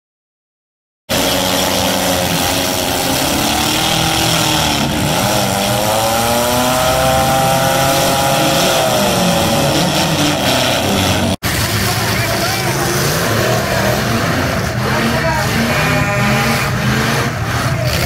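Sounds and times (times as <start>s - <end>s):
car engines revving: 1.1s - 18.0s.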